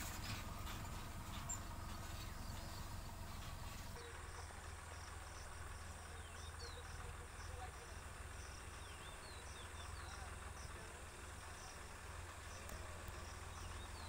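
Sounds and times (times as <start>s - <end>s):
faint low rumble: 0.0s - 14.0s
insect chirping: 0.2s - 14.0s.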